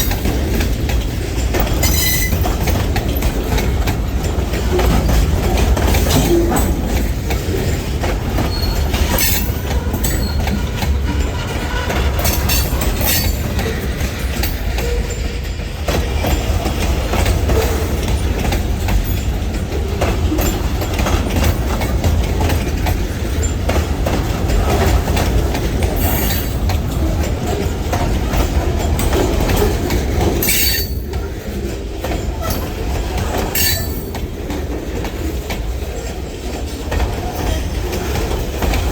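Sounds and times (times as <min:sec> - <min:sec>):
freight train rumbling past: 0:00.0 - 0:38.9
wheels clicking over rail joints: 0:00.0 - 0:38.9.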